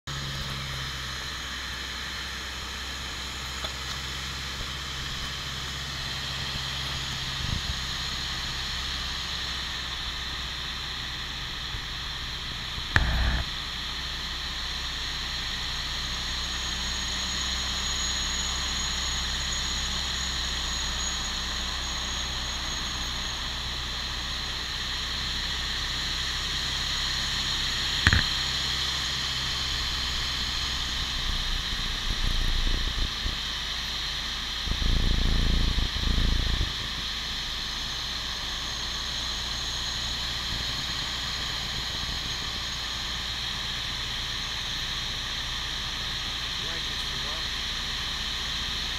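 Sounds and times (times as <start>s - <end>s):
light aircraft engine drone: 0.1s - 48.9s.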